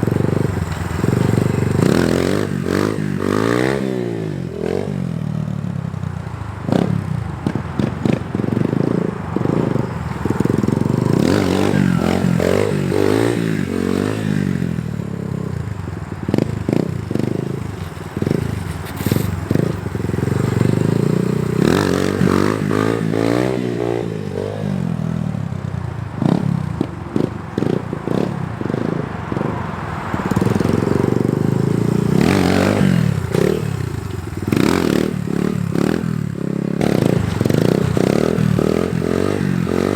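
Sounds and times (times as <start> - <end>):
dirt bike engine revving: 0.0 - 5.7, 6.6 - 25.5, 26.1 - 39.9.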